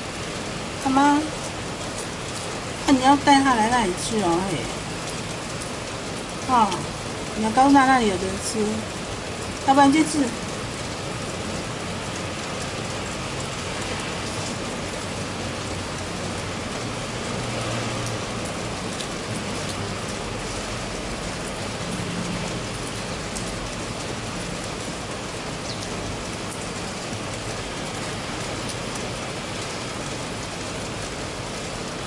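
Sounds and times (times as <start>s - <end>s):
rain on stone paving: 0.0s - 32.0s.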